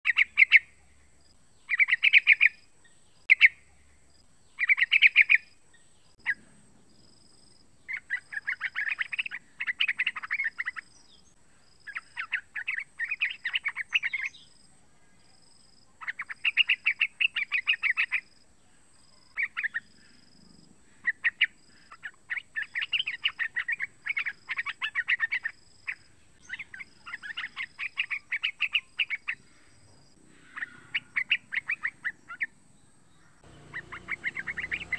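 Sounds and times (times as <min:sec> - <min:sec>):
bulbul calling: 0:00.0 - 0:01.0, 0:01.6 - 0:06.6, 0:07.8 - 0:14.6, 0:16.0 - 0:18.3, 0:19.1 - 0:20.2, 0:20.8 - 0:29.7, 0:30.3 - 0:34.9.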